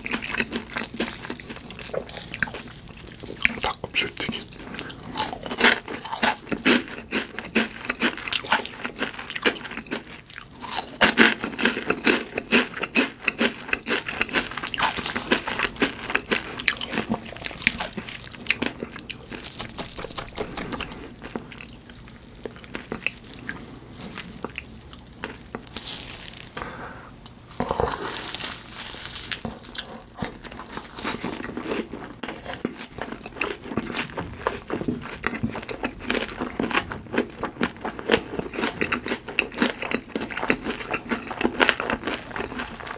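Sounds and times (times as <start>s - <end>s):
chewing crisp fried food: 0.0s - 42.9s.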